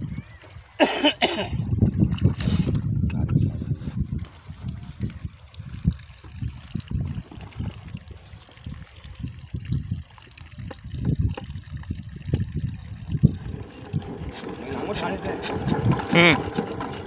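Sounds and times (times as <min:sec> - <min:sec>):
water gushing through a hose: 0:01.5 - 0:17.0.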